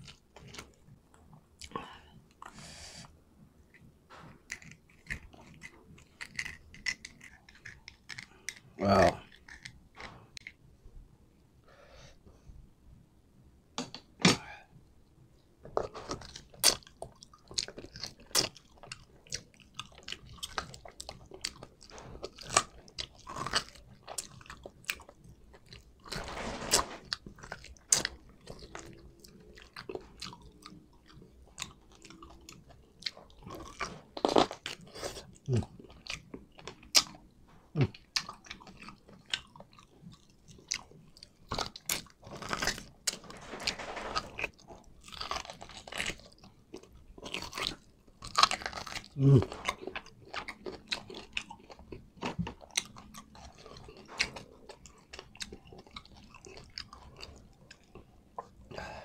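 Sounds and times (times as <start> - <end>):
person chewing meat: 0.0 - 10.6, 15.8 - 26.1, 27.1 - 43.2, 44.4 - 59.0.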